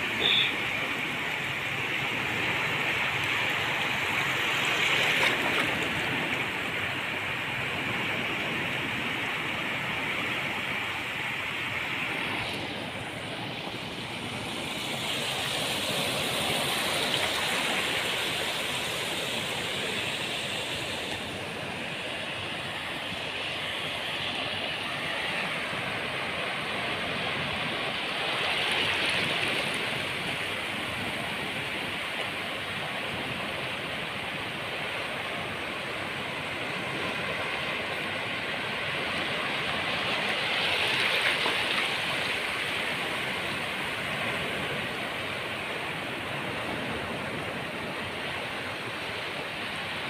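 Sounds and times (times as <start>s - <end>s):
sea waves washing onto beach: 0.0s - 50.0s.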